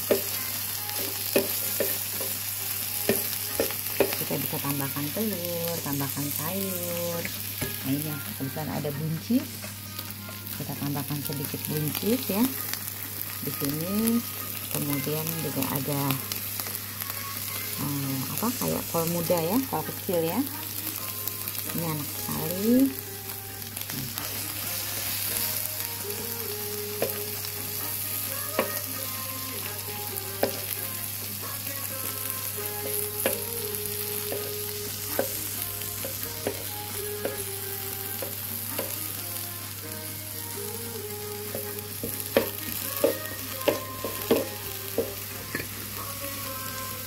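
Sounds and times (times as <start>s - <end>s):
food sizzling on a griddle: 0.0s - 47.0s.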